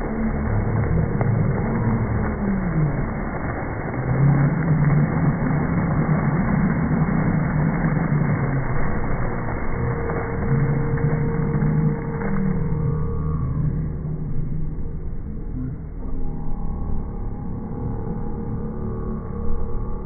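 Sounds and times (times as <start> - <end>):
fountain jets splashing: 0.0 - 20.0
slowed crowd voices: 0.0 - 20.0.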